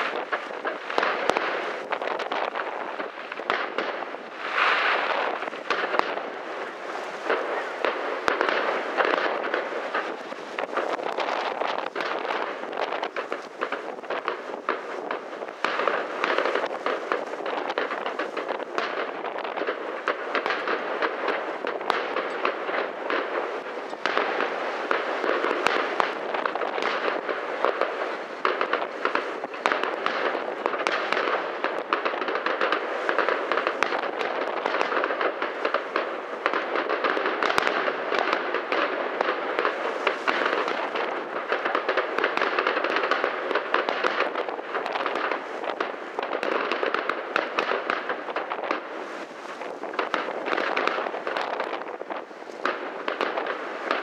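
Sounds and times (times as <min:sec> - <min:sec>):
fireworks crackle: 0:00.0 - 0:54.0
fireworks shells bursting: 0:00.0 - 0:54.0.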